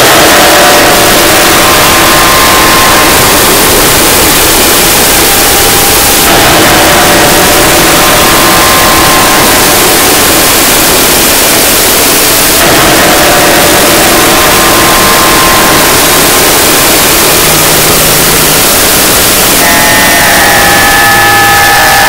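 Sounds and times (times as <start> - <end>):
distorted electronic noise: 0.0 - 22.0
faint steady tones: 0.0 - 22.0.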